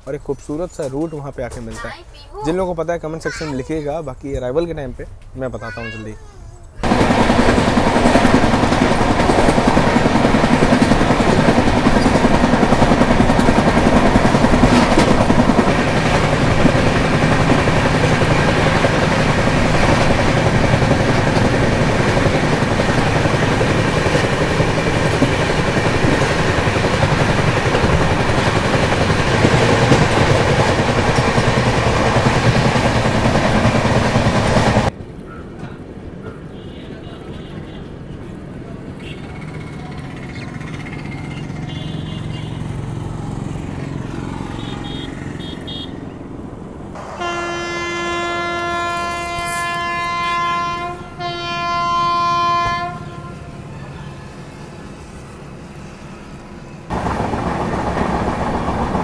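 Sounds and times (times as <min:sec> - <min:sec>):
train wheels rolling on rails: 0:06.8 - 0:36.5, 0:37.9 - 0:45.4, 0:46.2 - 0:59.0.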